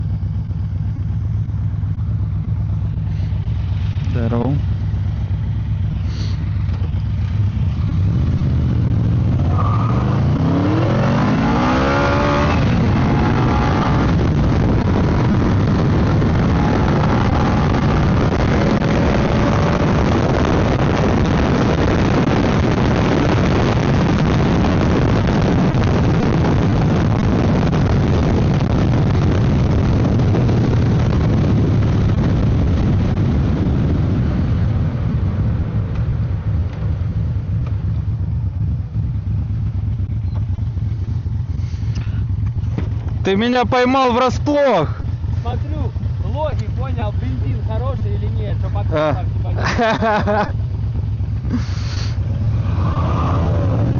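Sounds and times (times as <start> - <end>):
wind rush: 0.0 - 40.1, 50.4 - 53.9
motorcycle engine revving: 0.0 - 53.9.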